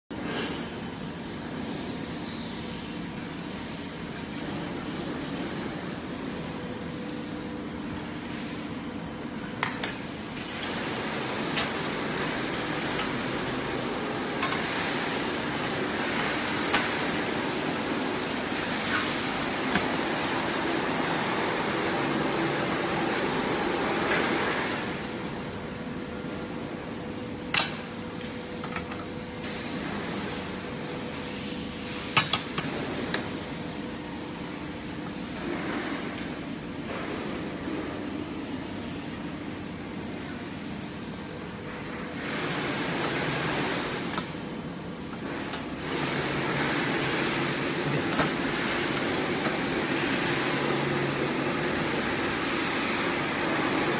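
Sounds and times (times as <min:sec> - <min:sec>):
fan-like machine whir: 0:00.1 - 0:53.9.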